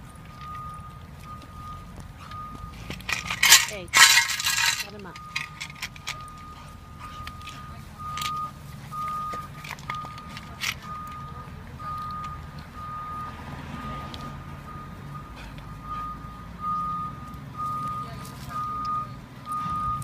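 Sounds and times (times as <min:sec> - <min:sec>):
low engine rumble: 0:00.0 - 0:20.0
reversing alarm beeping: 0:00.0 - 0:20.0.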